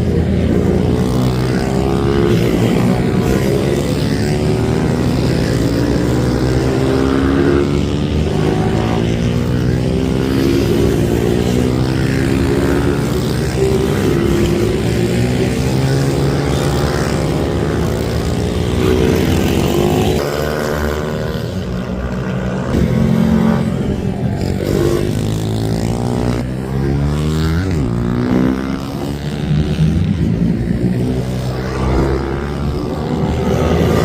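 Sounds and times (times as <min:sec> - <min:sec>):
minibike engines revving: 0:00.0 - 0:34.0.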